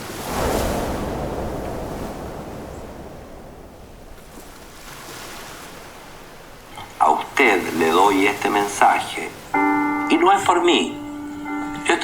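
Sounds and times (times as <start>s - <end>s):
surf wave breaking: 0.0s - 12.0s.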